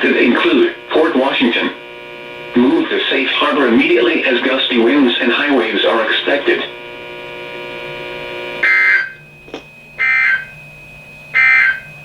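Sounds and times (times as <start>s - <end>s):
buzzing digital data bursts: 0.0s - 9.3s, 10.0s - 10.6s, 11.3s - 12.0s
steady radio hum: 0.0s - 12.0s.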